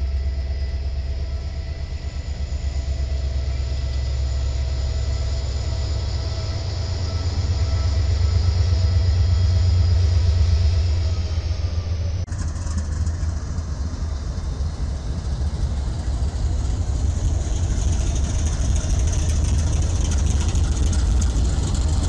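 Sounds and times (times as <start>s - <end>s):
diesel locomotive engine throb: 0.0s - 22.0s
rail and wheel noise: 0.0s - 22.0s.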